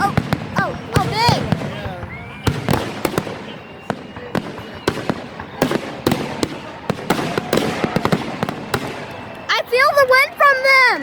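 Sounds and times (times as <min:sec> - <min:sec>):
fireworks bangs: 0:00.0 - 0:10.9.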